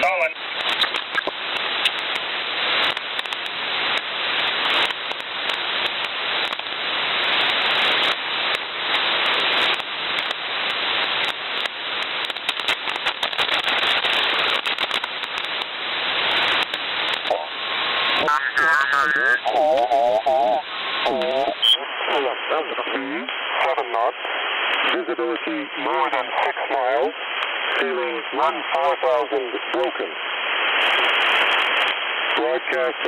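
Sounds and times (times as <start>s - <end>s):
radio static hiss: 0.0s - 33.0s
static crackles and clicks: 0.0s - 33.0s.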